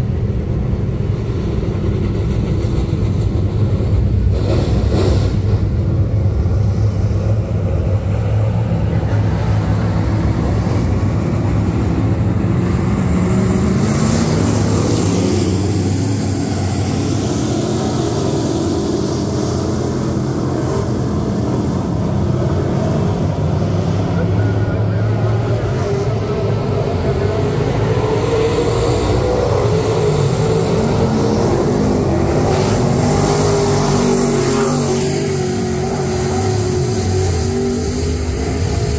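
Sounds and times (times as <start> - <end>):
cars passing close: 0.0 - 38.9
stock car engines racing: 0.0 - 38.9.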